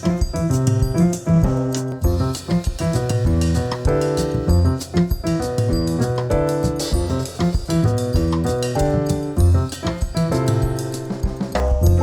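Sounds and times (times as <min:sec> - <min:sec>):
instrumental music through headphones: 0:00.0 - 0:12.0.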